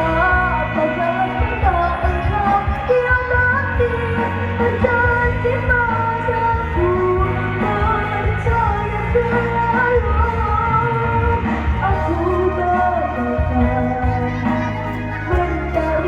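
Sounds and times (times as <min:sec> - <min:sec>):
pop-rock song with band: 0:00.0 - 0:16.0.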